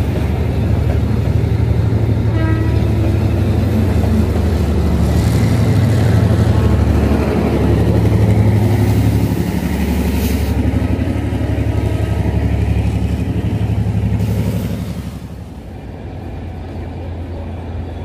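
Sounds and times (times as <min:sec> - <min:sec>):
diesel locomotive engine: 0:00.0 - 0:18.0
passenger train passing: 0:00.0 - 0:18.0.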